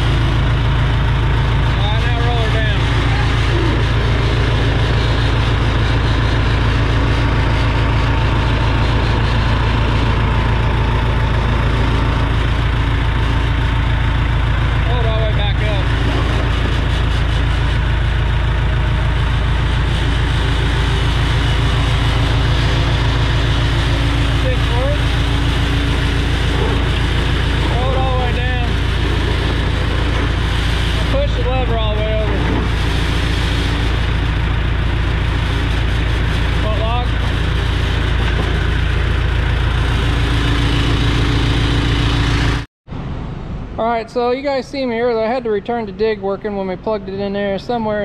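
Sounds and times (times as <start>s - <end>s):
diesel engine idling: 0.0s - 48.0s
steady whine: 0.0s - 48.0s.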